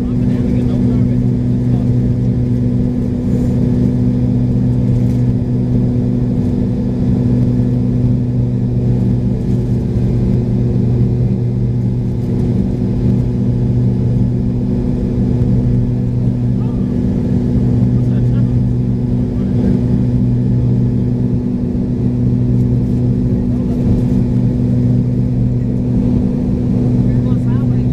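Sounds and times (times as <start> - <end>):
aircraft engine drone in cabin: 0.0 - 27.9.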